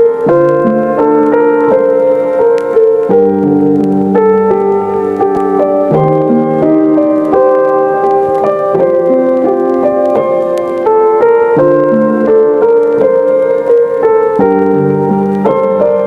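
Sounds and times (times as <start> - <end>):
keyboard melody: 0.0 - 16.0.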